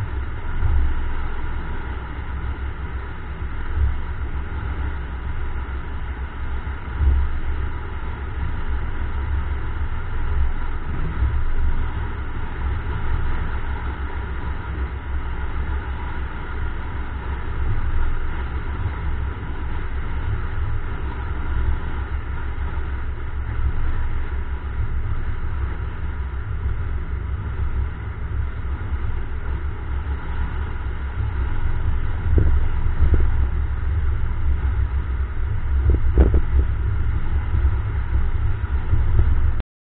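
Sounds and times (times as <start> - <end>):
wind buffeting microphone: 0.0 - 39.6.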